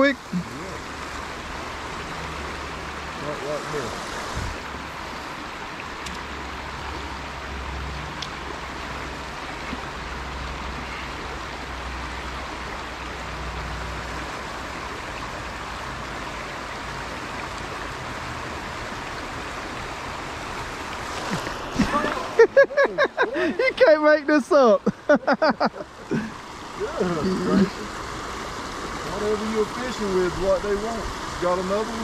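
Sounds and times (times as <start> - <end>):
outdoor background hiss: 0.0 - 32.0.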